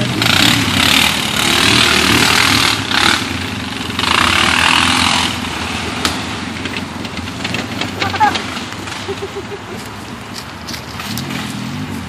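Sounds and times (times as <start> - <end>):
atv engine under throttle: 0.0 - 12.0.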